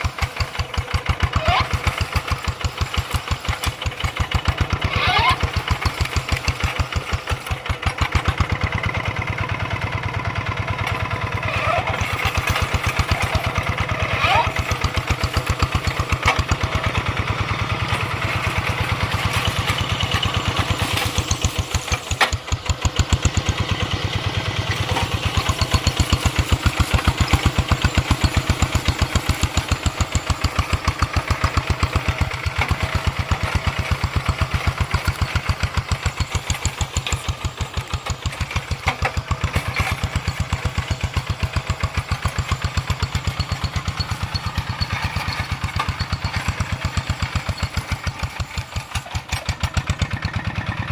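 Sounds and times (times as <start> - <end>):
hand tractor engine running: 0.0 - 50.9.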